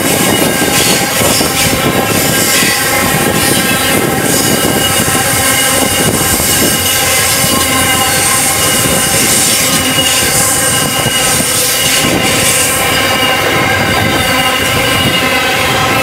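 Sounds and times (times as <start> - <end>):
train wheels rumbling on rails: 0.0 - 16.0
wheels squealing: 0.0 - 16.0.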